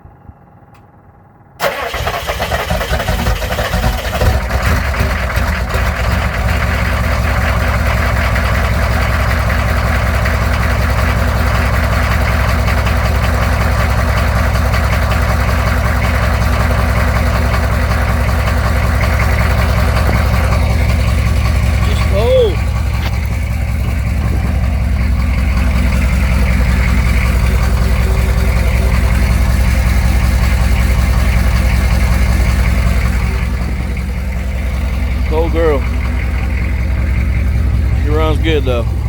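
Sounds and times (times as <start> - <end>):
diesel engine starting and idling: 0.0 - 39.0.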